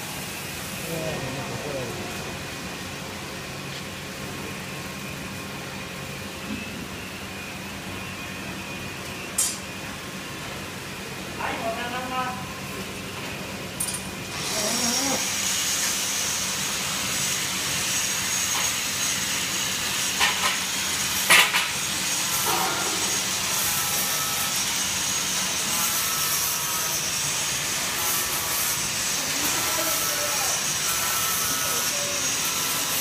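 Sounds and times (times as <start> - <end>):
machinery hiss and hum: 0.0 - 33.0.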